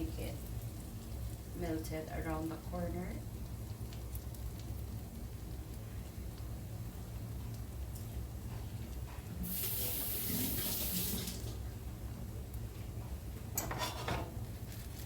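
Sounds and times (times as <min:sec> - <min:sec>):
butter sizzling in frying pan: 0:00.0 - 0:15.0.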